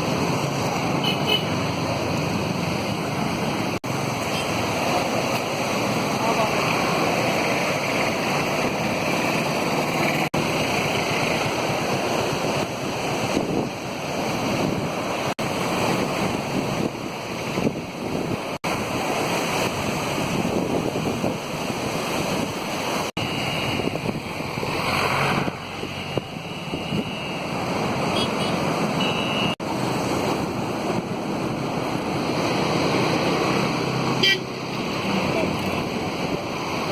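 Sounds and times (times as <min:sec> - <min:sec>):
rushing floodwater: 0:00.0 - 0:36.9.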